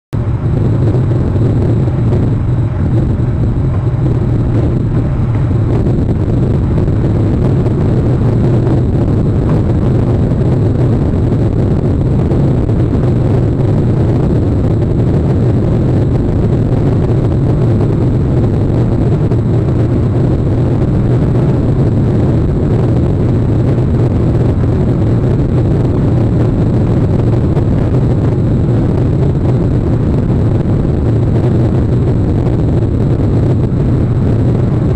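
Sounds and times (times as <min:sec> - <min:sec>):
low outdoor rumble: 0:00.1 - 0:34.9.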